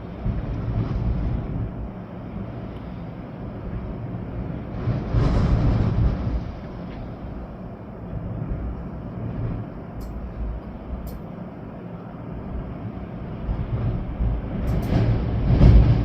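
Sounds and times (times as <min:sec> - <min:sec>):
rain: 0:00.0 - 0:16.0
storm wind gusting: 0:00.0 - 0:16.0
wind buffeting microphone: 0:00.0 - 0:16.0.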